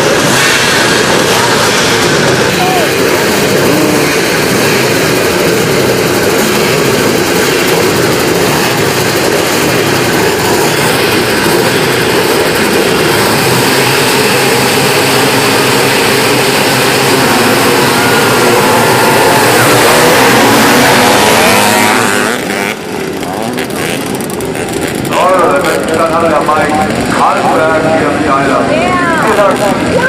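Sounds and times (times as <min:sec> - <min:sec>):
motorcycle engine revving: 0:00.0 - 0:30.0
motorcycle engines running hard: 0:00.0 - 0:30.0.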